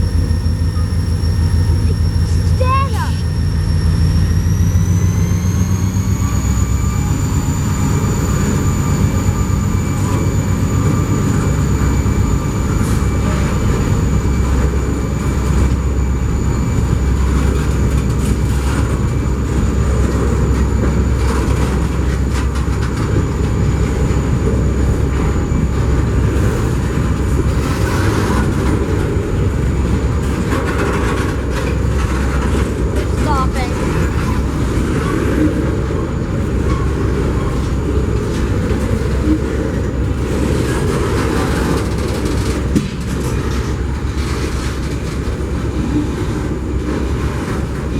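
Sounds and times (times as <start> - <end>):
high-pitched whine: 0.0 - 47.9
train rumbling past: 0.0 - 47.9
wheels clicking on rails: 6.6 - 47.9.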